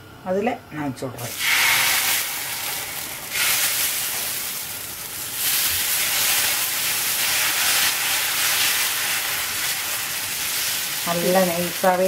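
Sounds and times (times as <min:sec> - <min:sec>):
batter sizzling on a hot griddle: 0:01.3 - 0:12.0.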